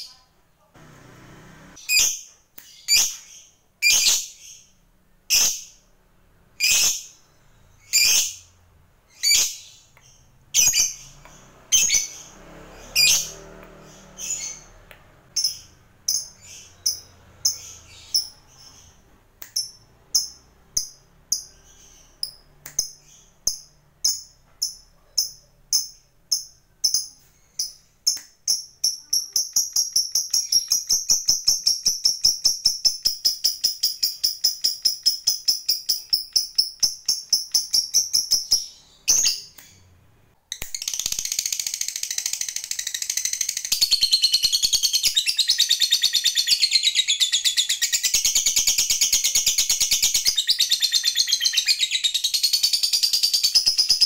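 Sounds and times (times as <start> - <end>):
lovebird chirping and chattering: 1.8 - 6.0, 6.6 - 39.9, 40.5 - 54.0.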